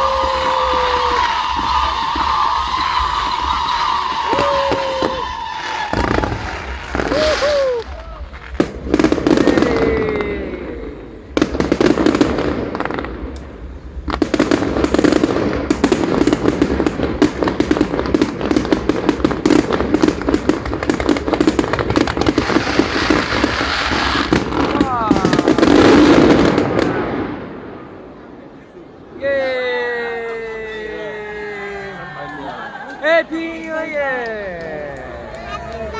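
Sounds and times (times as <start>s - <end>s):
fireworks crackling and popping: 0.0s - 27.8s, 29.2s - 35.9s.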